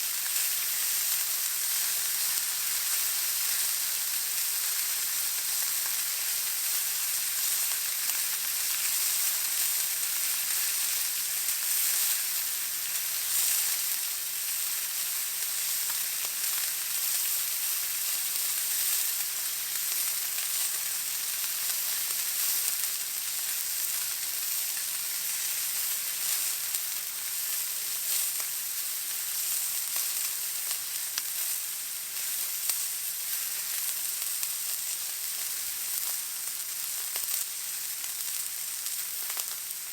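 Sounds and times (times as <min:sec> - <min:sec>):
steak sizzling in a hot pan: 0:00.0 - 0:39.9.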